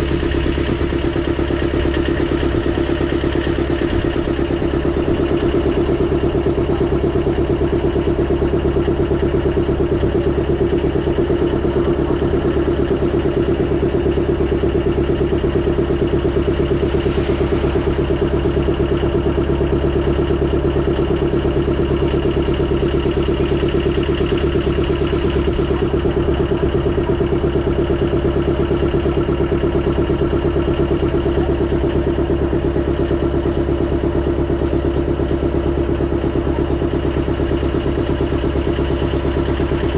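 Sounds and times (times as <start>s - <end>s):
motorboat engine droning: 0.0s - 39.9s.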